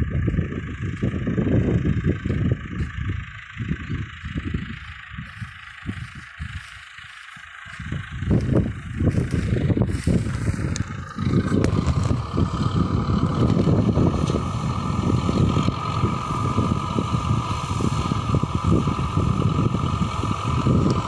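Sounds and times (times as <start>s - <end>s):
wind buffeting microphone: 0.0s - 6.8s, 7.4s - 21.0s
mower whine: 0.0s - 21.0s
tractor engine under load: 0.0s - 21.0s.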